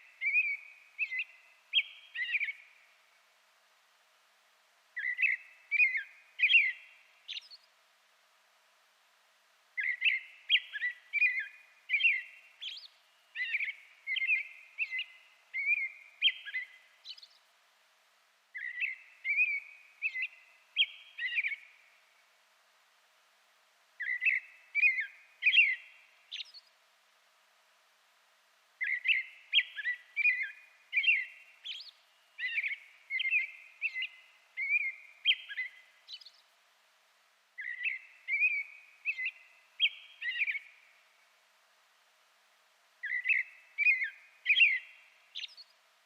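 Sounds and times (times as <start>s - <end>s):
songbird chirping: 0.0s - 46.0s.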